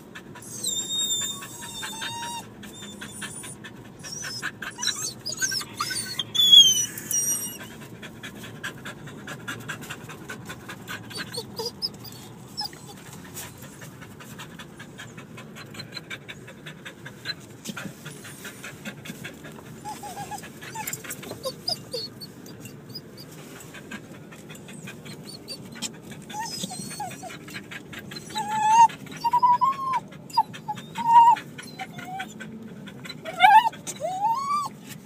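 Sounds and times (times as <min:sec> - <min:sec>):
dog whining: 0:00.0 - 0:07.9, 0:10.8 - 0:13.8, 0:14.5 - 0:34.8
dog panting: 0:00.0 - 0:35.0.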